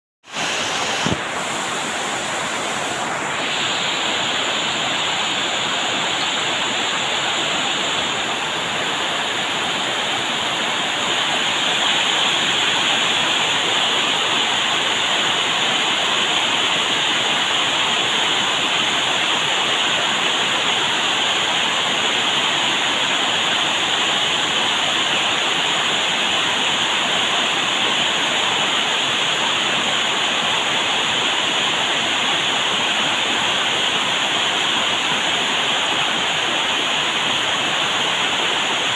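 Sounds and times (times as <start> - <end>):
rushing water: 0.2 - 38.9.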